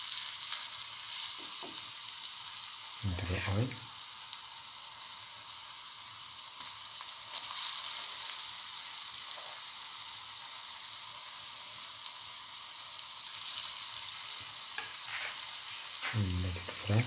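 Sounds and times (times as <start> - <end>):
batter sizzling in hot oil: 0.0 - 17.0.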